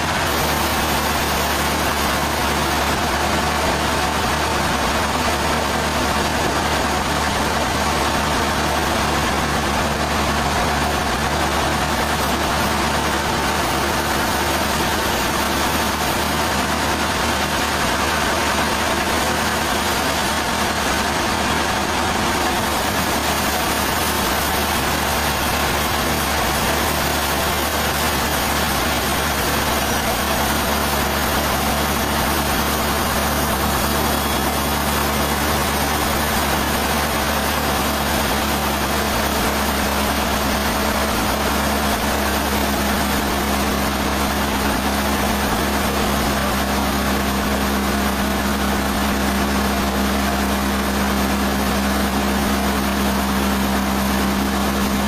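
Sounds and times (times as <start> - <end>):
sawmill machinery hum: 0.0 - 55.0.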